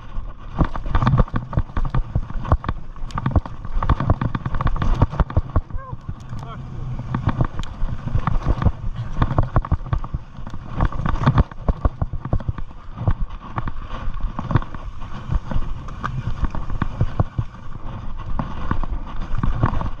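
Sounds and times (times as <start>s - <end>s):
bike knocking and rattling: 0.0s - 20.0s
tyres crunching over dirt and stones: 0.6s - 20.0s.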